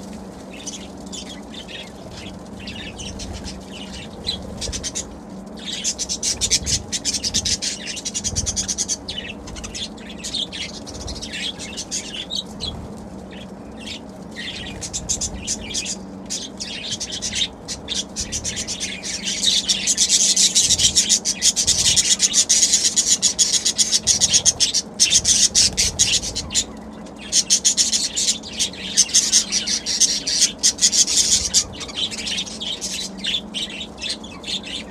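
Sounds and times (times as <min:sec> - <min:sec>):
budgerigars chattering and chirping: 0:00.5 - 0:34.9.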